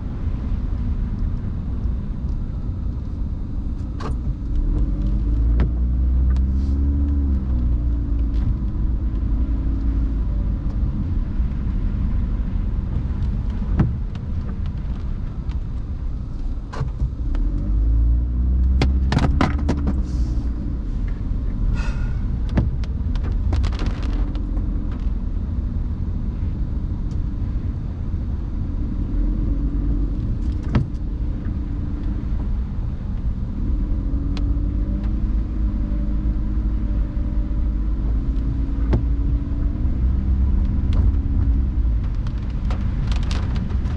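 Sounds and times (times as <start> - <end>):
engine and tyres rumbling: 0.0 - 43.9.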